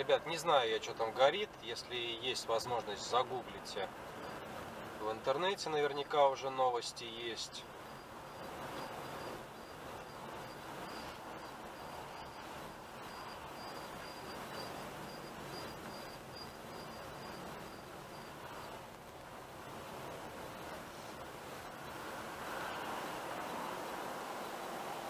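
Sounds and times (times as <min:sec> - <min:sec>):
car road and engine noise: 0:00.0 - 0:25.0
faint high-pitched whine: 0:00.0 - 0:25.0.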